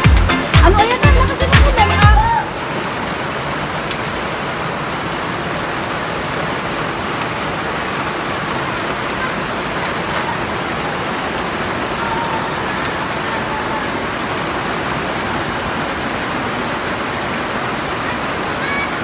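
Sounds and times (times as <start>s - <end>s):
rain on hard surfaces: 0.0s - 19.0s.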